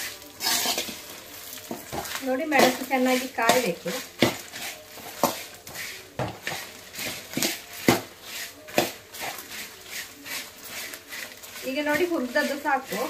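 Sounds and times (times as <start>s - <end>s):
metal spatula scraping pan: 0.0s - 13.0s.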